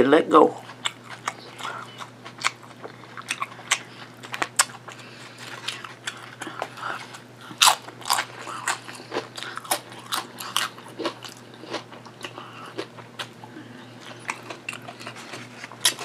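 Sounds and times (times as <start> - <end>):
chewing crunchy chips: 0.6 - 16.0.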